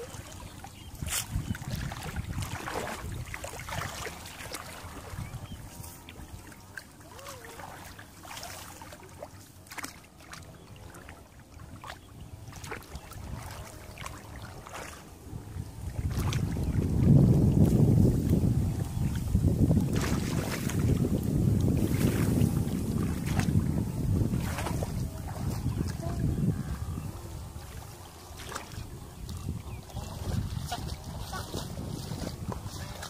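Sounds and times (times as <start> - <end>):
wind rumble on microphone: 0.0 - 9.4, 10.1 - 33.0
muddy water sloshing and splashing: 0.0 - 33.0.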